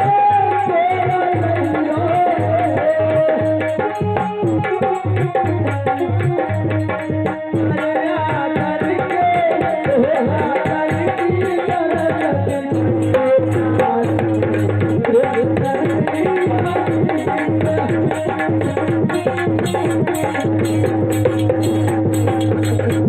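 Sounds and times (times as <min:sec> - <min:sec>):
quick hand drum rhythm: 0:00.0 - 0:23.0.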